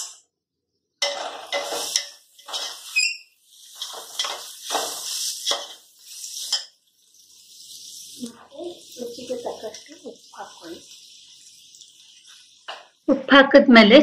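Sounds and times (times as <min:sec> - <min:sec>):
metal spoon scraping a pot: 0:01.0 - 0:12.9.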